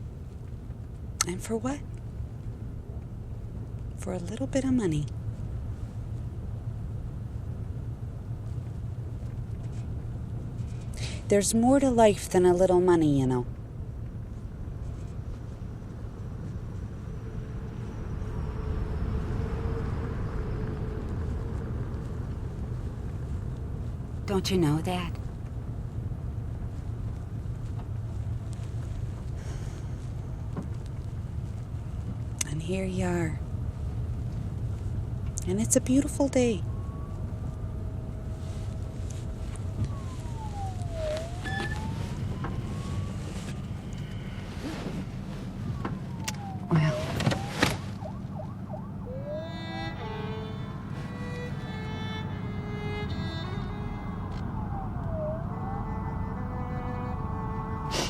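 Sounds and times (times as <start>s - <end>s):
car engine and road noise: 0.0s - 58.0s
faint hum: 0.0s - 58.0s.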